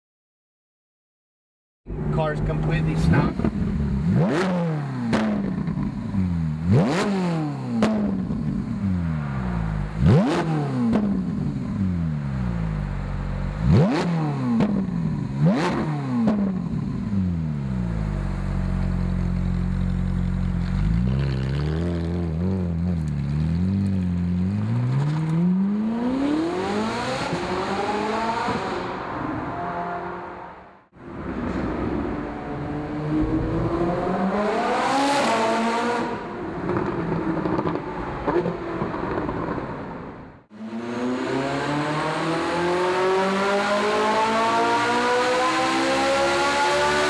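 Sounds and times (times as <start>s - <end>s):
sports car engine revving: 1.9s - 30.6s, 31.4s - 38.6s, 40.5s - 47.0s.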